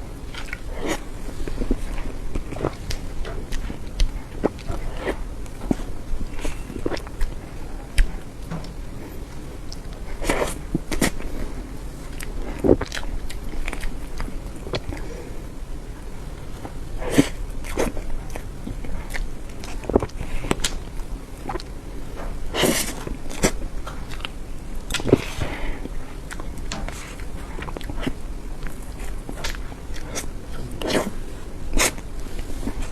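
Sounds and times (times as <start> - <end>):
person chewing soft cake: 0.0 - 32.9.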